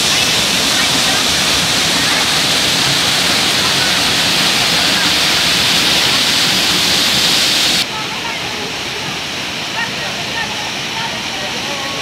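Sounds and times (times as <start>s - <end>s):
waterfall crashing over rock: 0.0s - 12.0s.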